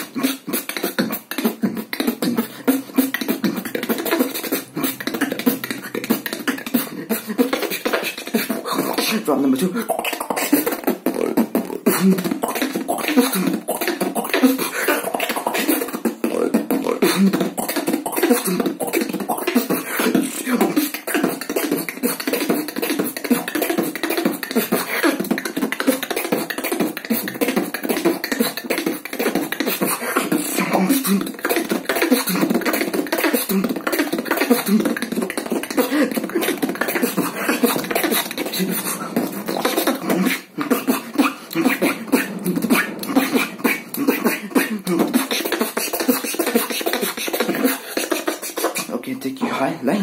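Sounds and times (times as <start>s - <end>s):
person beatboxing: 0.0s - 50.0s.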